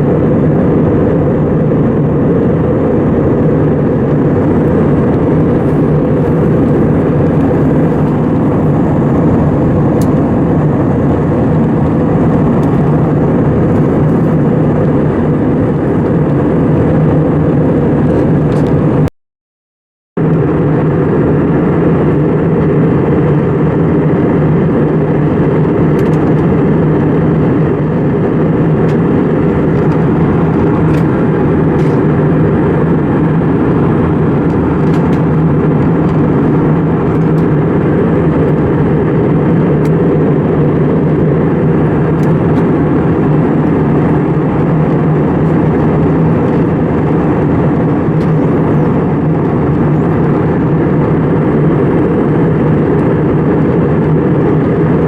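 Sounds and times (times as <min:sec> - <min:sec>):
jet engine drone in cabin: 0:00.0 - 0:19.1, 0:20.2 - 0:55.0.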